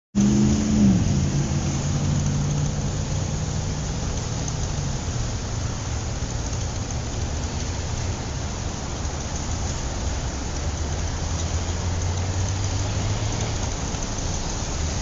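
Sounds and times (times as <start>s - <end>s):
street traffic rumble: 0.2s - 15.0s
vehicle engine close by: 0.2s - 15.0s.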